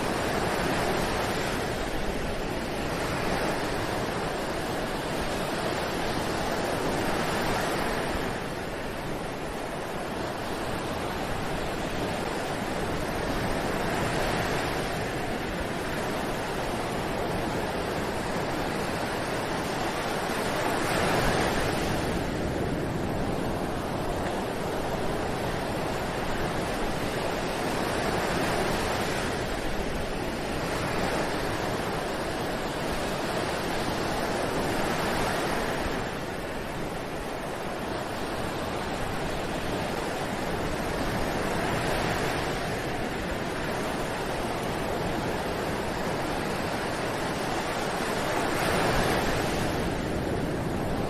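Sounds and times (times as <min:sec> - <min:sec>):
ocean waves breaking on beach: 0:00.0 - 0:51.0.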